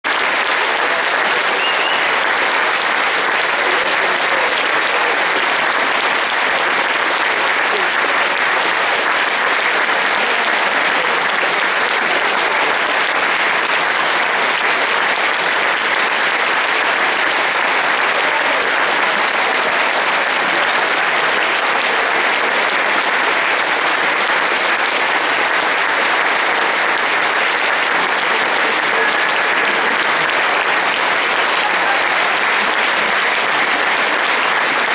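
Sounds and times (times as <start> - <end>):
audience applauding: 0.0 - 34.9.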